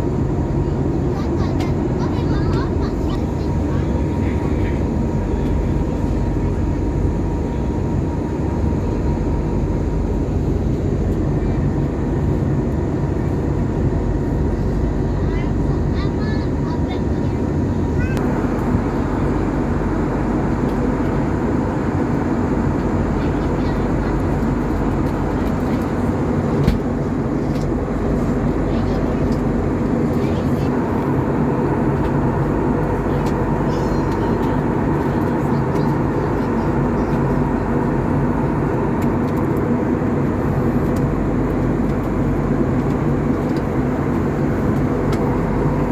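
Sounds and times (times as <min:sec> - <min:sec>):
jet engine rumble: 0:00.0 - 0:45.9.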